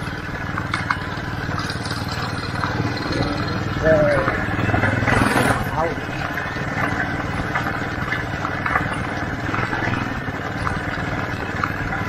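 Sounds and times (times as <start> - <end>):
small vehicle engine rumble: 0.0 - 12.0.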